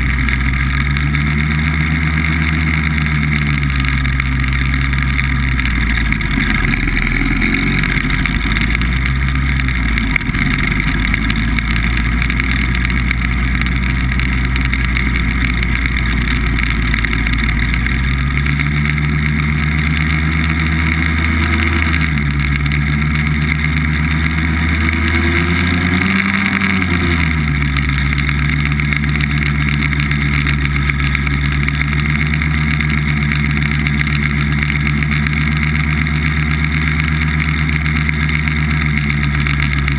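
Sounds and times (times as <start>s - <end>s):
hovercraft engine and fan running: 0.0s - 39.9s.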